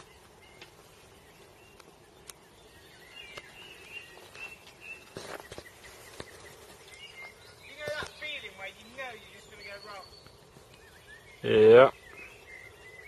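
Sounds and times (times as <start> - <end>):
birds chirping: 0.0 - 13.0
rustle: 0.0 - 13.0.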